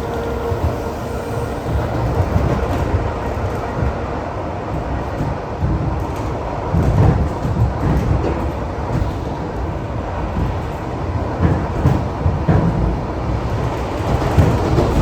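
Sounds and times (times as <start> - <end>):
electric train wheels rumbling: 0.0 - 15.0.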